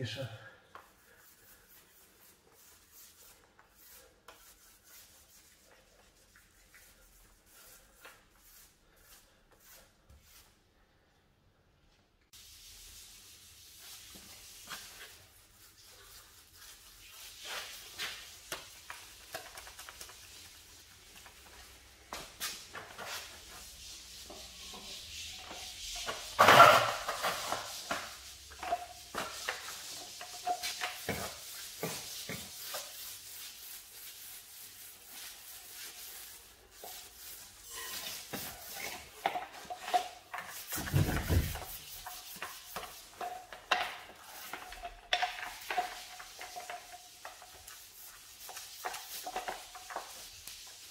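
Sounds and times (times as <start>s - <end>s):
paint roller and brush strokes: 0.7s - 10.7s, 12.3s - 50.9s.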